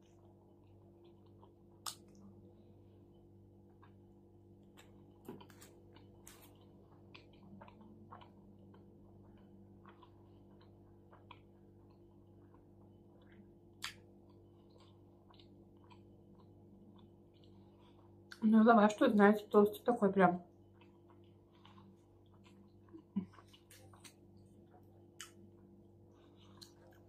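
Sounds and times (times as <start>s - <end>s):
steady low hum: 0.0s - 27.0s
close-up chewing: 0.1s - 2.4s, 3.6s - 18.4s, 20.6s - 27.0s.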